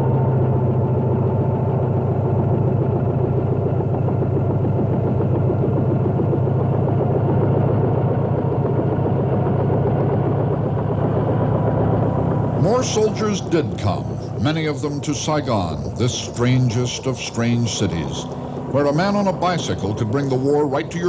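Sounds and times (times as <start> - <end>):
vehicle engine running steadily: 0.0 - 21.0.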